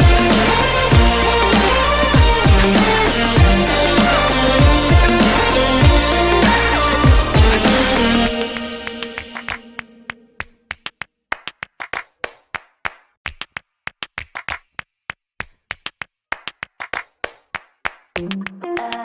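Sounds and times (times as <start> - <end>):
dry clap-like percussion hits: 0.0 - 19.0.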